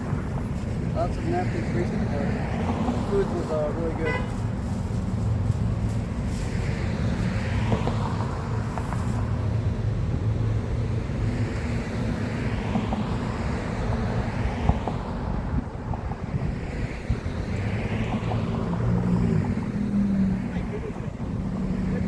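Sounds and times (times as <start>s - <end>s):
cars passing by: 0.0s - 22.0s
street traffic rumble: 0.0s - 22.0s.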